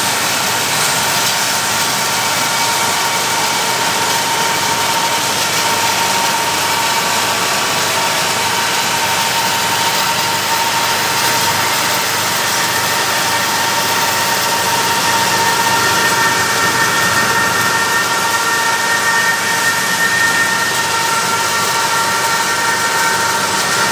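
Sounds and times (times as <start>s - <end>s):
diesel locomotive engines: 0.0s - 23.9s
high whine: 0.1s - 23.9s.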